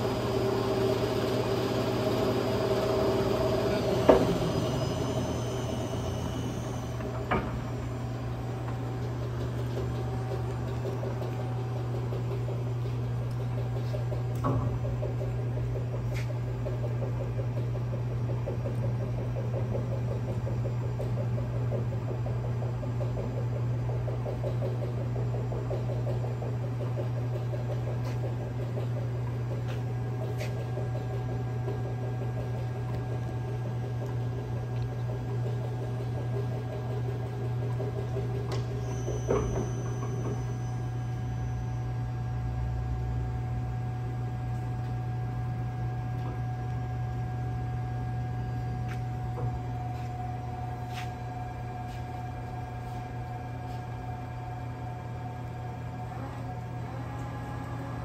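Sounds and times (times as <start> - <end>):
low machinery hum: 0.0 - 58.0.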